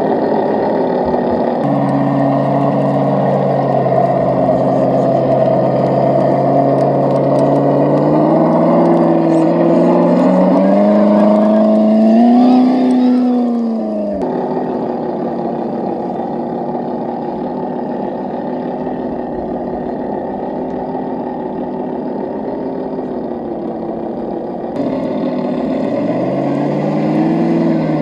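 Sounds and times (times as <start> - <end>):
simulated truck engine revving: 0.0 - 28.0.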